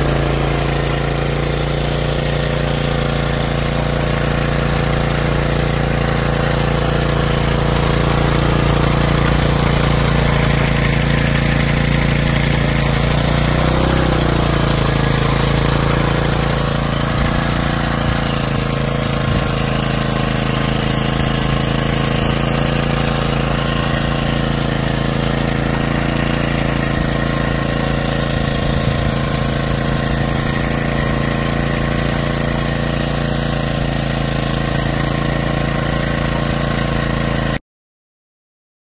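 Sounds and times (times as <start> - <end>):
small tiller engine running: 0.0 - 37.6
tines working through dry soil: 0.0 - 37.6.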